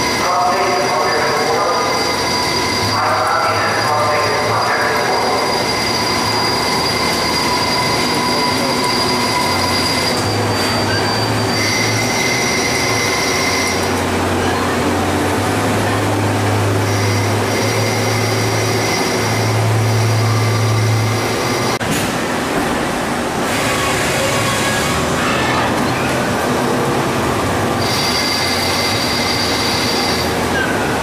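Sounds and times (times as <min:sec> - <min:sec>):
lathe machining metal: 0:00.0 - 0:14.8, 0:15.4 - 0:22.0, 0:23.4 - 0:31.0.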